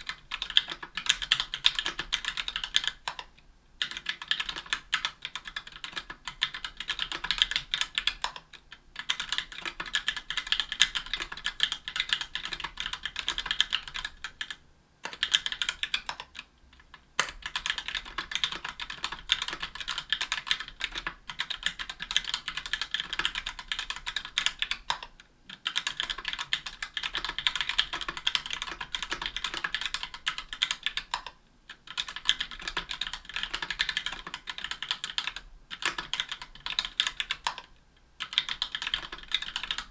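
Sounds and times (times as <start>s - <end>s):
fast mechanical keyboard typing: 0.0s - 16.5s, 17.2s - 39.9s.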